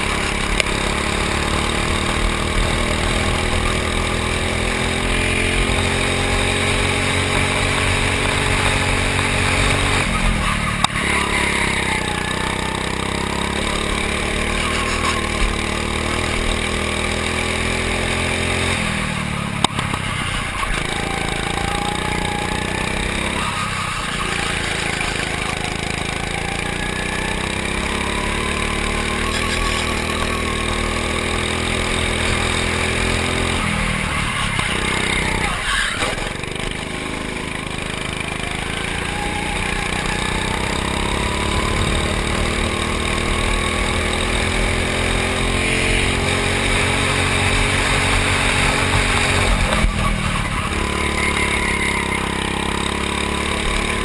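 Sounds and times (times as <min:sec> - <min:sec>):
go-kart engine running hard: 0:00.0 - 0:54.0.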